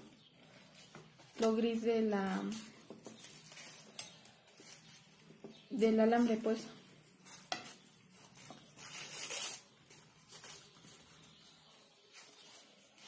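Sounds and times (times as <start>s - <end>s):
crepe paper rustling: 0.0s - 13.0s.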